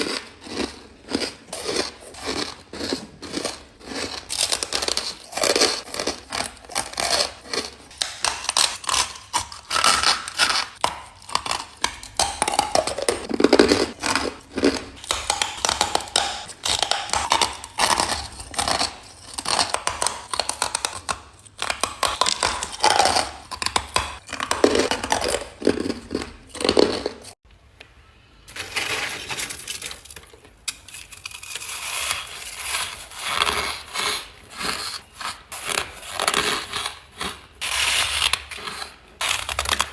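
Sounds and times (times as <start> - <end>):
crunching ice: 0.0 - 27.4, 28.5 - 39.9.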